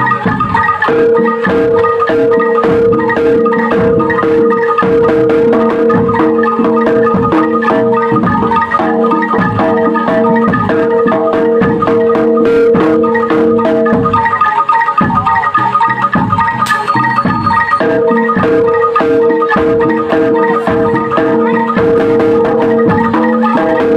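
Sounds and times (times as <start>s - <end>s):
drum beat: 0.0s - 23.9s
metal pitched percussion: 0.0s - 23.9s.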